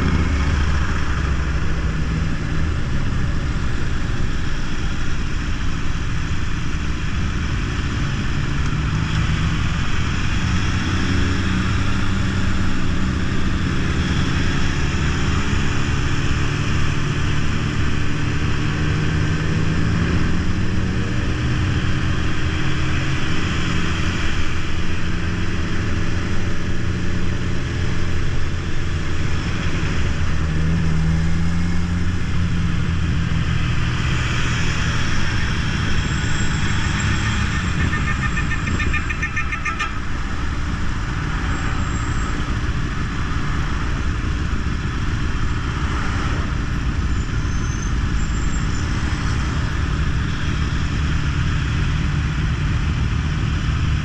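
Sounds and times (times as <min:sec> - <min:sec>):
other motorcycles nearby: 0:00.0 - 0:54.0
wind and road noise: 0:00.0 - 0:54.0.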